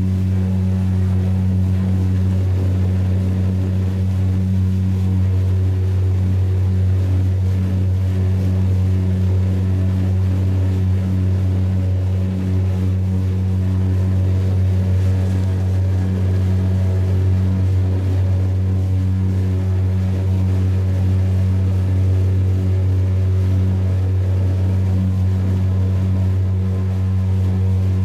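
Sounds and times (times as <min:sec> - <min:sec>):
engine running low hum: 0:00.0 - 0:28.0.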